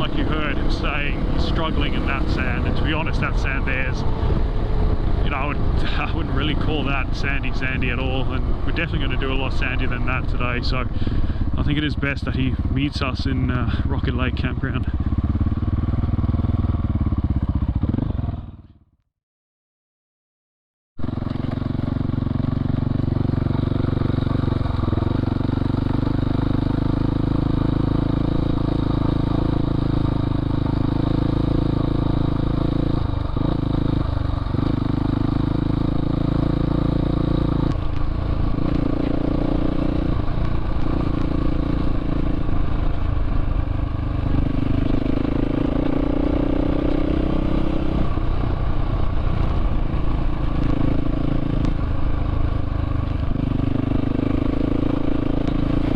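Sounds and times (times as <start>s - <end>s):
dirt bike engine running: 0.0s - 18.8s, 21.0s - 55.9s.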